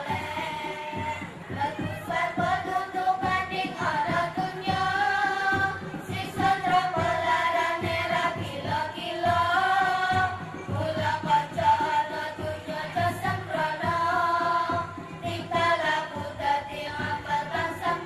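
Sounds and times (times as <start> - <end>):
accompanying music with percussion: 0.0 - 18.0
children singing: 0.0 - 18.0.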